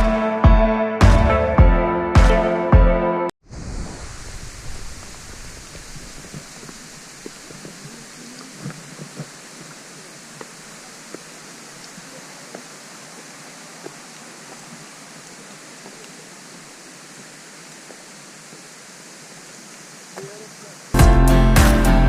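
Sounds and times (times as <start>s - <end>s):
waterfall rushing: 3.5s - 21.9s.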